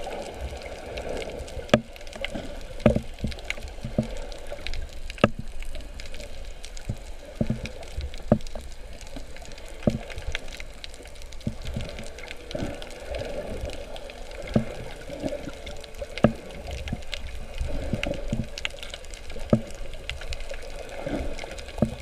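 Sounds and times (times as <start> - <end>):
water sloshing and gurgling: 0.0 - 22.0.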